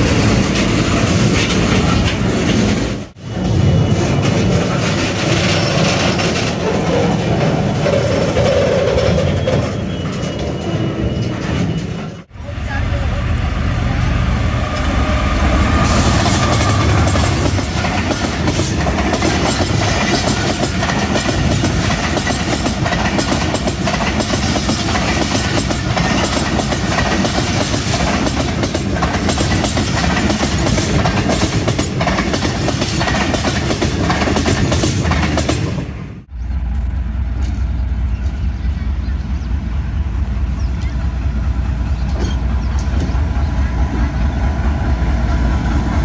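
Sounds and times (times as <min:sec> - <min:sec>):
train wheels clickety-clack: 0:00.0 - 0:12.3, 0:14.7 - 0:35.9, 0:36.7 - 0:44.4
train rumble: 0:00.0 - 0:46.0.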